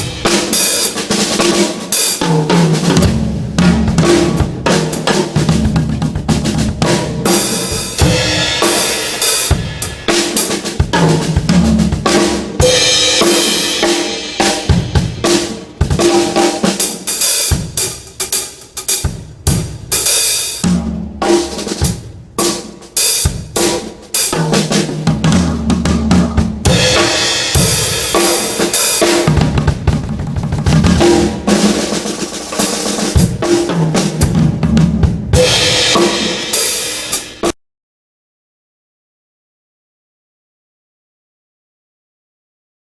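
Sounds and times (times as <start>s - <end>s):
drum kit playing: 0.0s - 37.6s.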